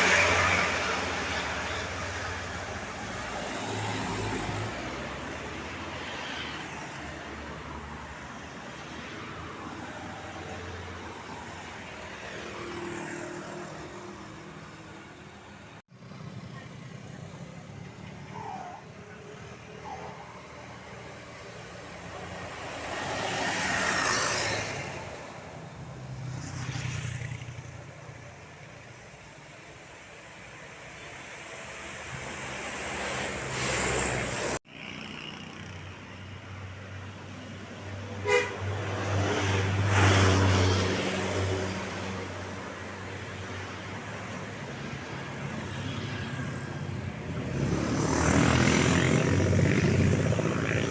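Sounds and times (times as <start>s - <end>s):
buses passing: 0.0s - 50.9s.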